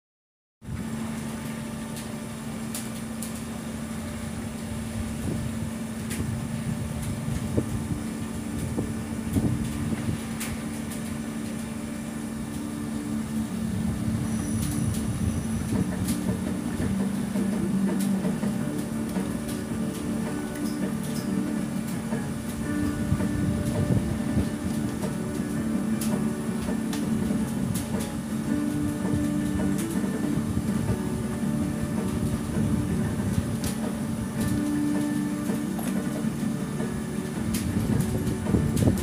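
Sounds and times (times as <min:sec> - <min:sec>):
machinery droning: 0:00.6 - 0:39.0
low tone: 0:03.4 - 0:39.0.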